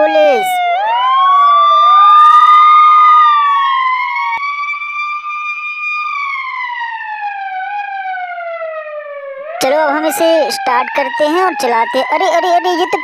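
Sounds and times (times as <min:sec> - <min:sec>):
police siren wailing: 0:00.0 - 0:13.0
second steady siren tone: 0:00.0 - 0:13.0.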